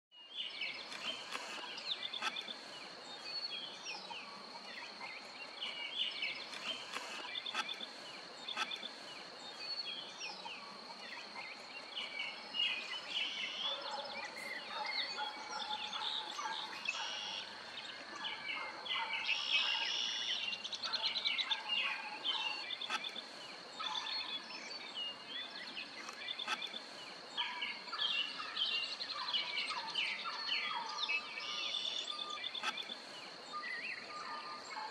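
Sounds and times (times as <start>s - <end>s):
birds singing and chirping: 0.2s - 34.9s
steady high-pitched whine: 0.2s - 34.9s.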